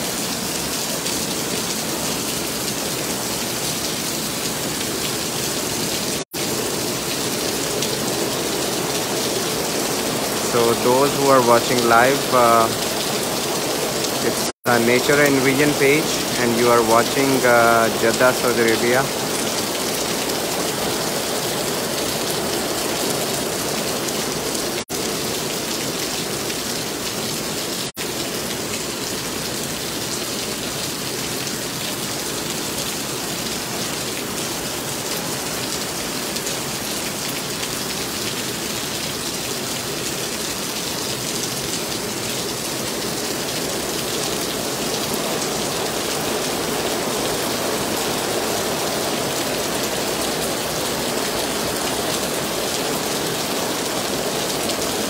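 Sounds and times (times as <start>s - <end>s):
heavy rain on the street: 0.0s - 55.0s.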